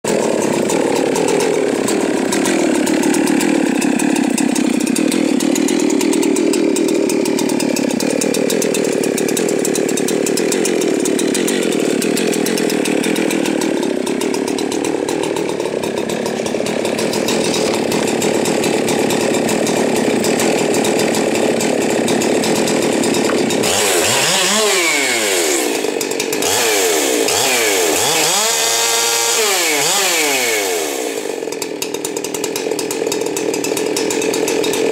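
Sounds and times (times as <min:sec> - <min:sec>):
chainsaw running and revving: 0:00.0 - 0:34.9.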